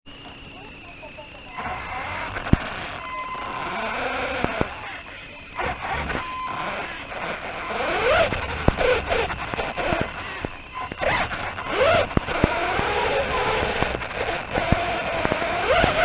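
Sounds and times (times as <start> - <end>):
small electric motor whining: 0.1 - 16.0.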